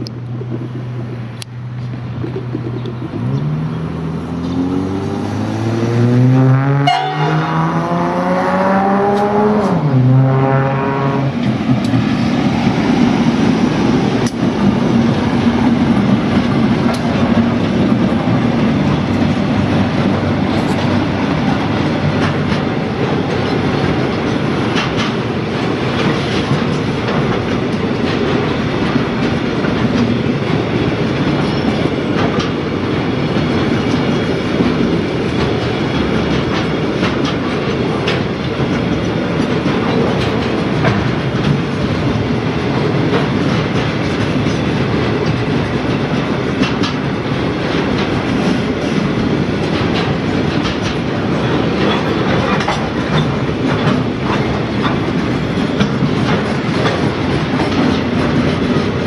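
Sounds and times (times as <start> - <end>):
wheels clicking over rail joints: 0.0 - 4.6, 11.4 - 59.0
freight train rumbling past: 0.0 - 59.0.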